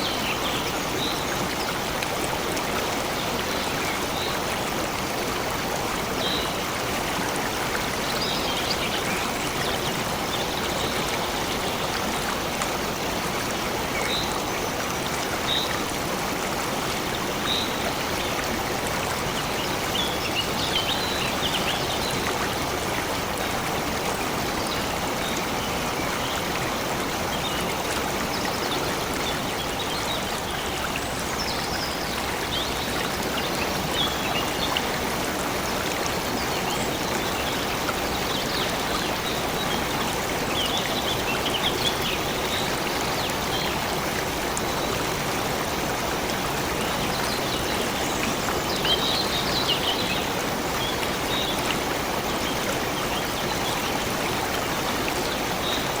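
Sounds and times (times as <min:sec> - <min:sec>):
stream of water flowing: 0:00.0 - 0:56.0.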